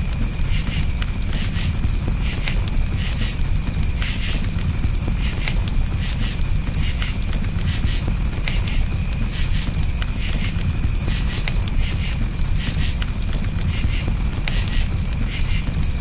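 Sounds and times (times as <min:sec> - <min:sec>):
campfire crackling and popping: 0:00.0 - 0:16.0
crickets chirping: 0:00.0 - 0:16.0.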